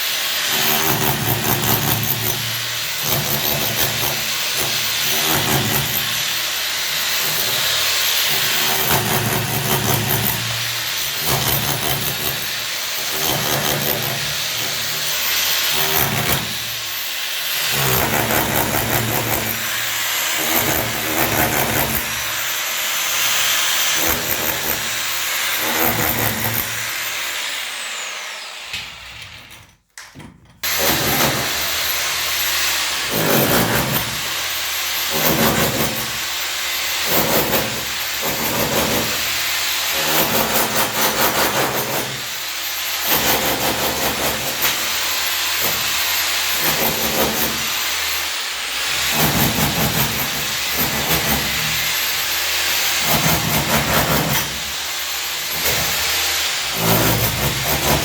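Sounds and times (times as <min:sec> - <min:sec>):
power tool running in bursts: 0:00.0 - 0:28.8, 0:30.6 - 0:58.0.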